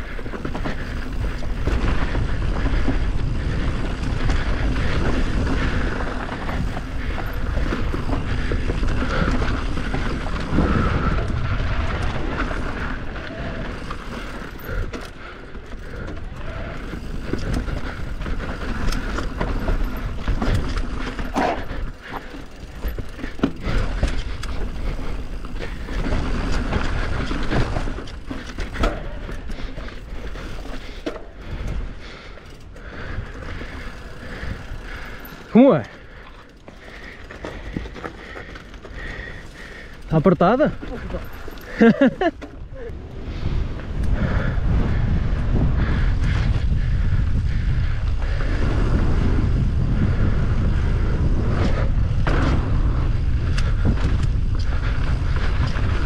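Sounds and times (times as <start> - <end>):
bike knocking and rattling: 0.0 - 56.0
wind and tyres rumbling: 0.0 - 56.0.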